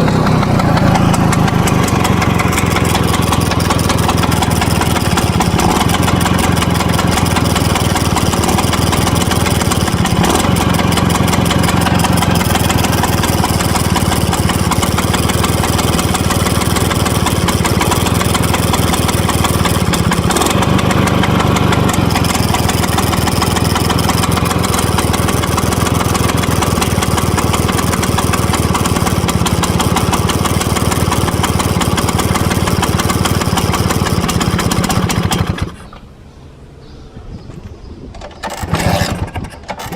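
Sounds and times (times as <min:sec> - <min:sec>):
scooter engine idling: 0:00.0 - 0:36.2.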